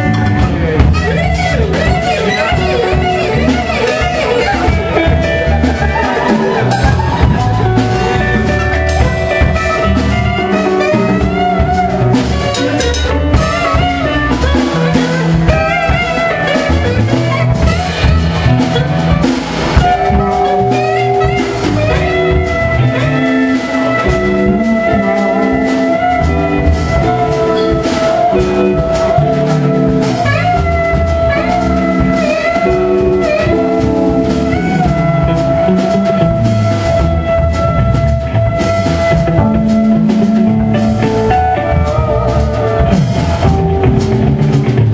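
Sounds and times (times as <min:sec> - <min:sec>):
bass guitar: 0:00.0 - 0:44.9
drum kit: 0:00.0 - 0:44.9
electric guitar: 0:00.0 - 0:44.9
high wavering lead notes: 0:00.0 - 0:44.9.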